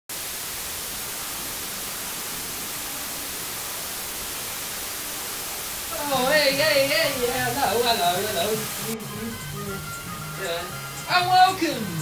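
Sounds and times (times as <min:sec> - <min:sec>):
television static hiss: 0:00.1 - 0:12.0.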